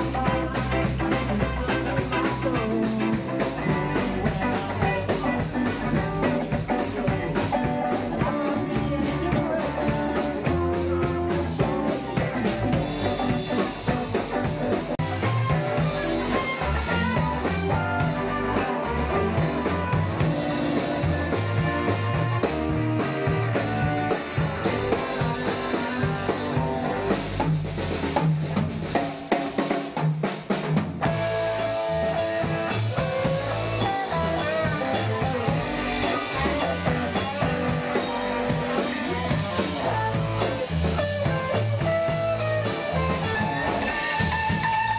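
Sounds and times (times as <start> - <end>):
electric guitars strummed: 0.0 - 30.0, 30.7 - 44.9
drum kit beat: 0.0 - 44.9.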